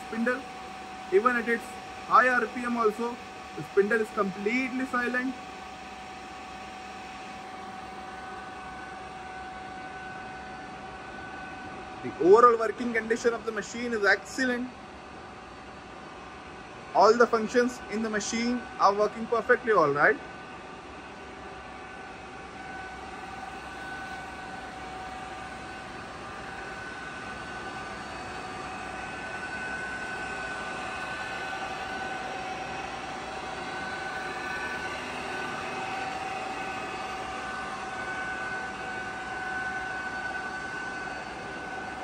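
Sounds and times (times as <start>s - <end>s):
milling machine humming: 0.0s - 42.0s.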